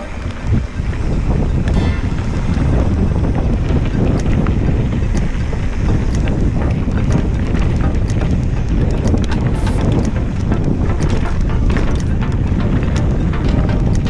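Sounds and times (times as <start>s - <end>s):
bike and stone clicks: 0.0s - 14.0s
tyres rolling on gravel: 0.0s - 14.0s
wind buffeting microphone: 0.0s - 14.0s.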